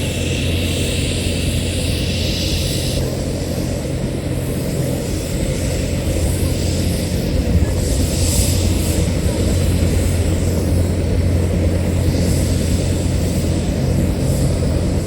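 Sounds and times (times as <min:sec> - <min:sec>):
helicopter rotor and turbine drone: 0:00.0 - 0:15.0.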